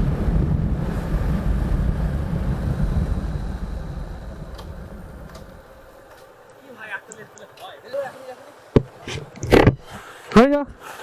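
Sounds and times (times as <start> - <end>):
wind and road noise: 0.0 - 8.0, 8.6 - 10.8.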